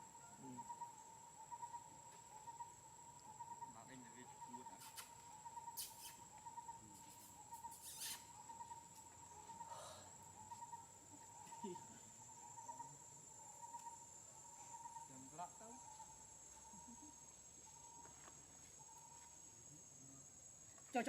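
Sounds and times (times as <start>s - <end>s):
insect chirring trill: 0.0s - 21.0s.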